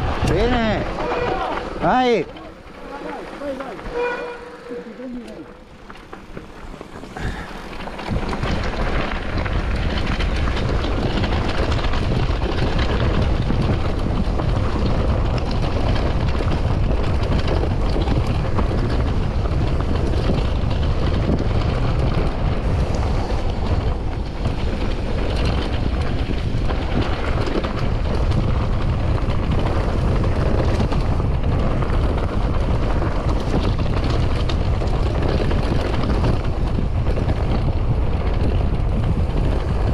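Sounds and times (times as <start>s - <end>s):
mountain bike rolling downhill: 0.0s - 39.9s
wind buffeting microphone: 0.0s - 39.9s.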